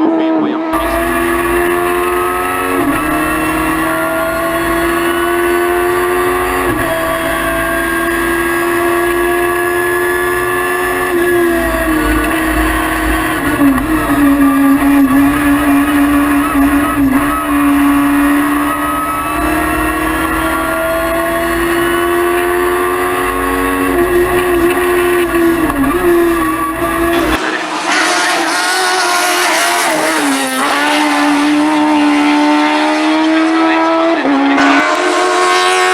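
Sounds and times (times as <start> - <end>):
high-revving car engine: 0.0 - 35.9.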